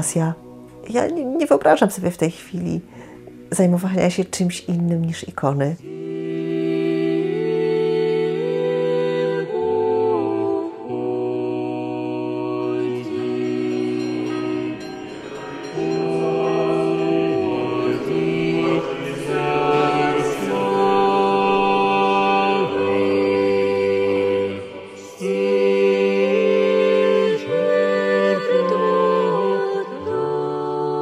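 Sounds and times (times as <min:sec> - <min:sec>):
mixed choir chanting: 0:00.0 - 0:01.2, 0:02.7 - 0:03.8, 0:05.8 - 0:31.0.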